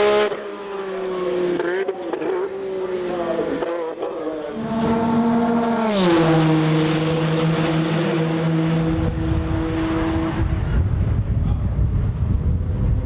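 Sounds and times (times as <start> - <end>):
race car passing at speed: 0.0 - 11.3.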